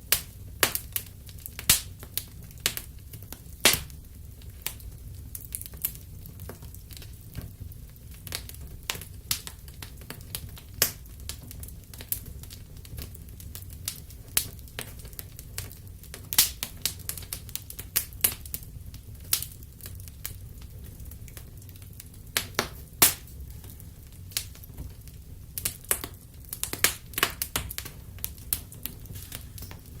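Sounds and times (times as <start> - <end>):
low rumble of flames: 0.0 - 30.0
wood fire crackling and popping: 0.0 - 30.0.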